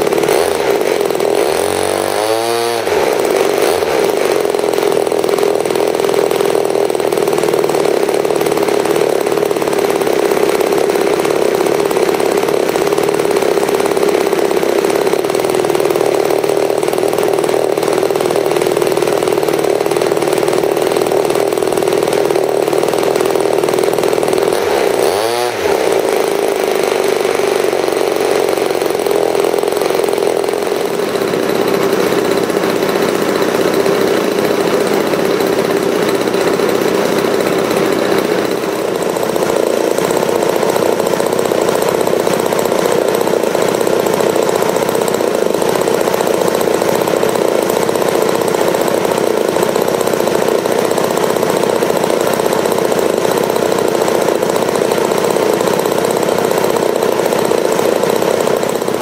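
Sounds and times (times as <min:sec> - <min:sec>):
model airplane engine running: 0:00.0 - 0:59.0.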